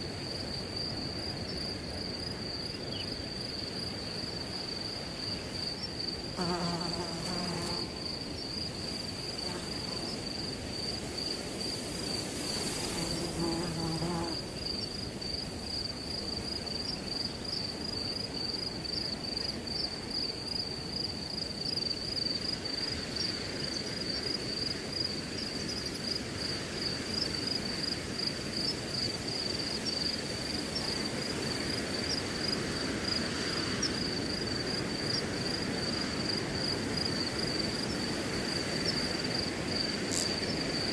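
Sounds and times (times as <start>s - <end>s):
crickets chirping: 0.0s - 40.9s
wind through grass: 0.0s - 40.9s.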